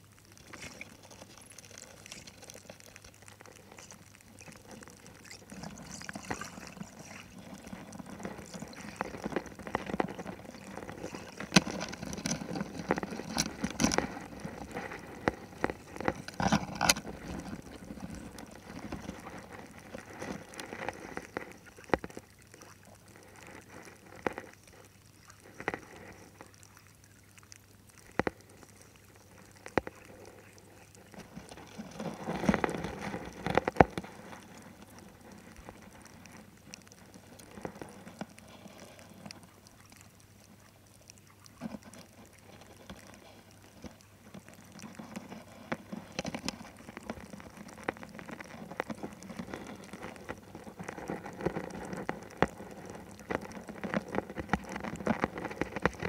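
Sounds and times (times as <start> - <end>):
sharp clicks and crackles: 0.0 - 56.0
water moving underwater: 0.0 - 56.0.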